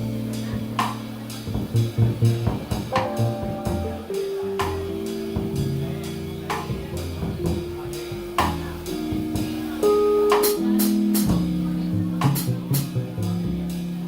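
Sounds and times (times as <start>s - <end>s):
drum and cymbal strokes: 0.0s - 14.0s
piano chords: 0.0s - 14.0s.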